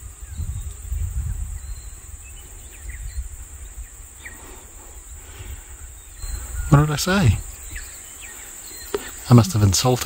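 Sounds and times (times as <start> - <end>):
wind rumble on microphone: 0.0 - 8.1
insects chirring: 0.0 - 10.0.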